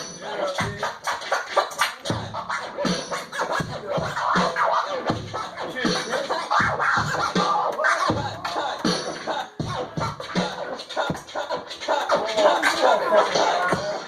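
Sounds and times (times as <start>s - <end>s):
record scratching: 0.0s - 14.0s
steady beat: 0.0s - 14.0s.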